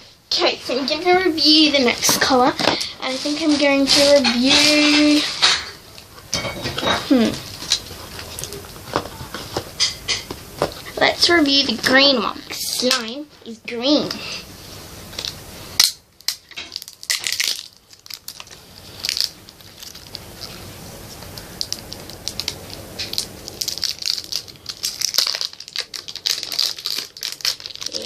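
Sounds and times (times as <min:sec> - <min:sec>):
plastic crinkling and crackling: 0:00.7 - 0:13.1, 0:15.1 - 0:28.0.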